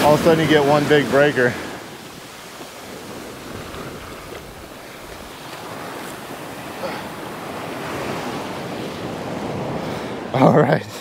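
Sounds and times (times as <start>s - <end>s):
surf washing up a beach: 0.0s - 11.0s.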